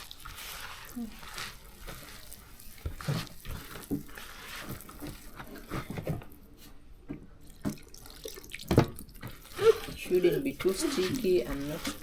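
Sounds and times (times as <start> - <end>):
batter squelching by hand: 0.0 - 6.8, 7.5 - 12.0.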